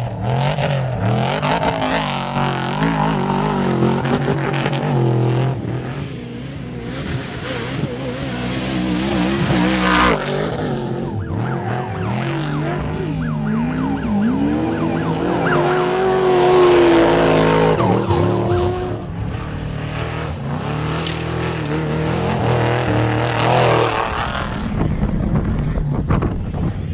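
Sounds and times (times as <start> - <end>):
truck engine revving: 0.0 - 26.9.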